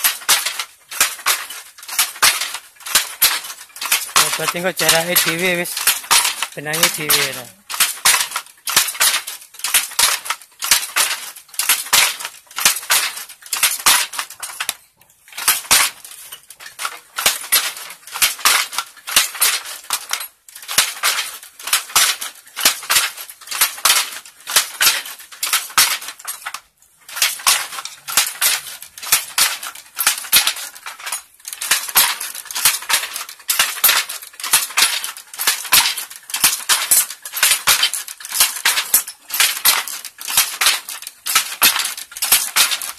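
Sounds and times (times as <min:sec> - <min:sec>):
wooden hand loom clattering: 0:00.0 - 0:42.9.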